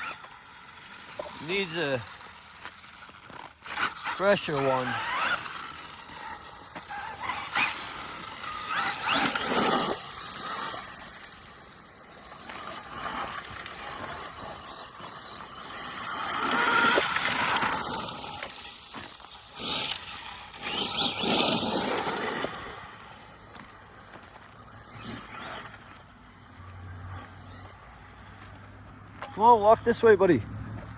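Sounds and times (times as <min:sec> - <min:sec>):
rc truck motor whine: 0:00.0 - 0:30.4
tyre and ground noise: 0:00.0 - 0:30.9.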